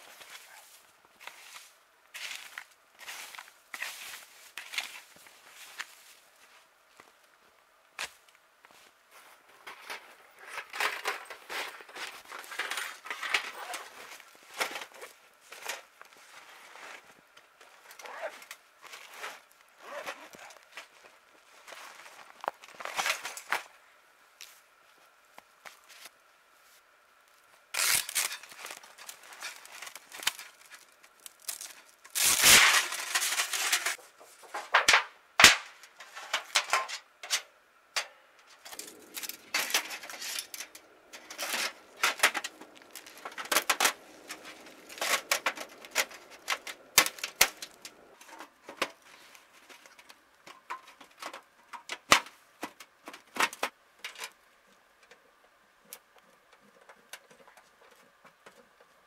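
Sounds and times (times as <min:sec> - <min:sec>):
rustling and scraping: 0:00.0 - 0:06.7, 0:08.0 - 0:23.8, 0:27.8 - 0:35.0, 0:35.7 - 0:54.3.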